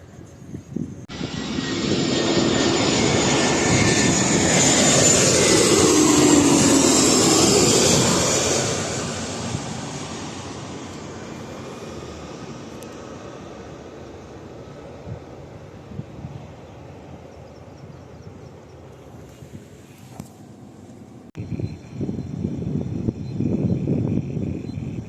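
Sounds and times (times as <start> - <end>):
aircraft passing low overhead: 0.0 - 25.0.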